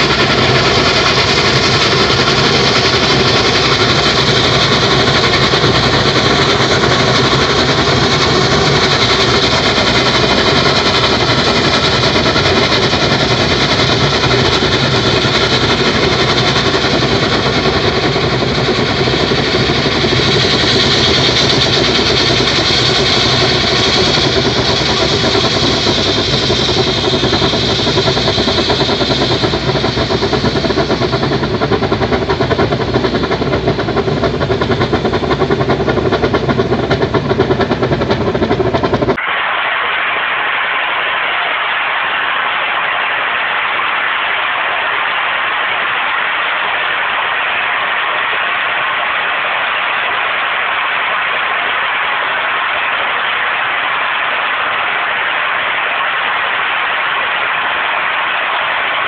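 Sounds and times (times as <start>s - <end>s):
gas jetting roar: 0.0s - 59.0s
steady rushing noise: 0.0s - 59.0s.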